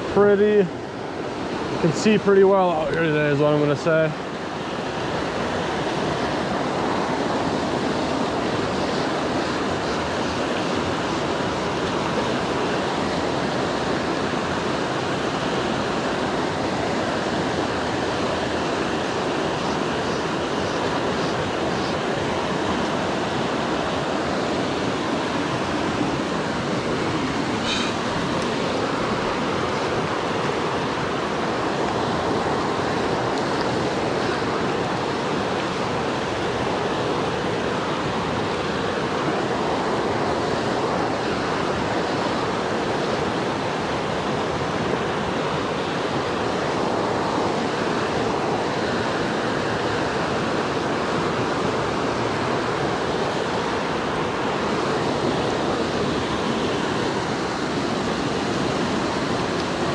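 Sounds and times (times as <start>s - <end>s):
river rapids rushing over rocks: 0.0s - 59.9s.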